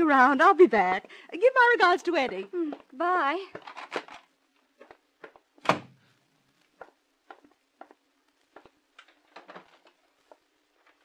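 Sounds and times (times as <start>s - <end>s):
footsteps walking away: 0.0s - 3.6s, 4.6s - 5.6s, 6.6s - 11.0s.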